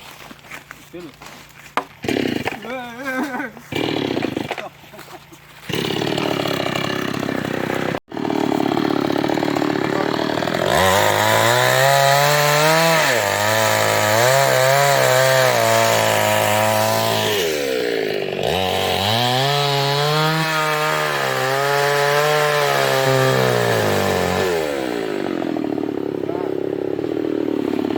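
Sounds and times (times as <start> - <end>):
chainsaw cutting wood: 1.4 - 27.9.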